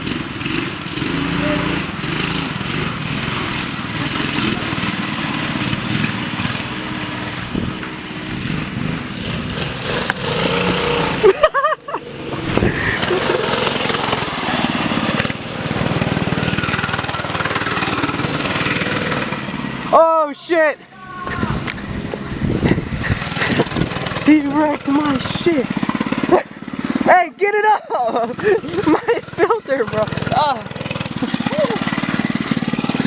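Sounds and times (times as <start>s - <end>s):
minibike engines revving: 0.0s - 33.0s.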